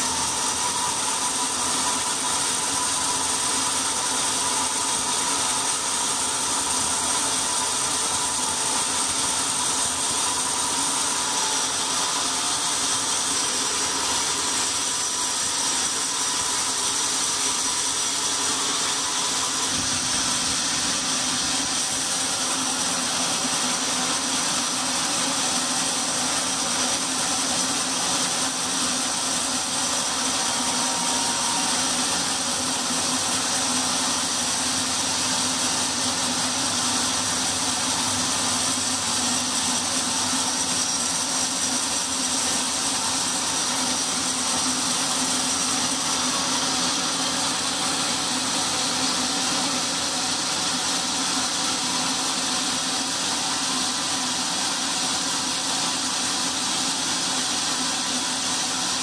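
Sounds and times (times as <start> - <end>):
band saw cutting timber: 0.0 - 59.0
high saw whine: 0.0 - 59.0.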